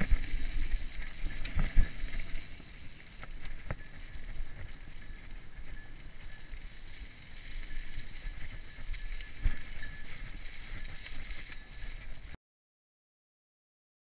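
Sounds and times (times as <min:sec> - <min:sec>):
bike rattling: 0:00.0 - 0:12.4
bike tyres rumbling on dirt: 0:00.0 - 0:12.4.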